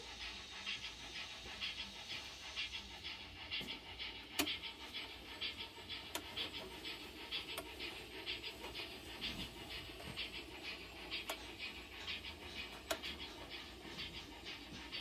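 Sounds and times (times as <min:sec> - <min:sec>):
turntable mechanism whirring: 0:00.0 - 0:15.0.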